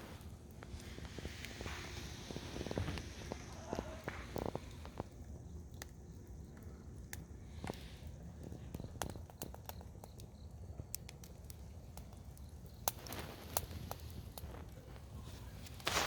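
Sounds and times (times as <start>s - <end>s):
sharp clicks and crackles: 0.2s - 16.0s.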